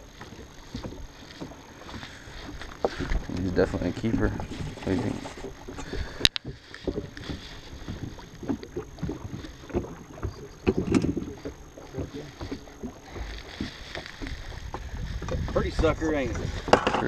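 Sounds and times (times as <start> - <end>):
knocks taps and rustling: 0.0 - 17.0
soft thumps: 0.1 - 17.0.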